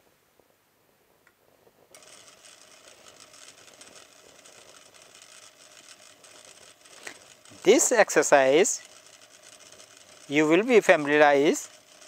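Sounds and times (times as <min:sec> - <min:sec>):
industrial sewing machine running: 0:02.0 - 0:12.0.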